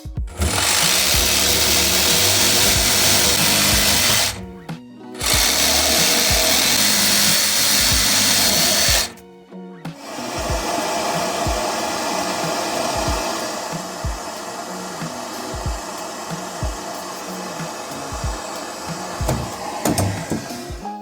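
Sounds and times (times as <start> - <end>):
music with steady beat: 0.0 - 21.0
loud noisy whir: 0.3 - 4.6, 5.2 - 9.2, 9.9 - 21.0.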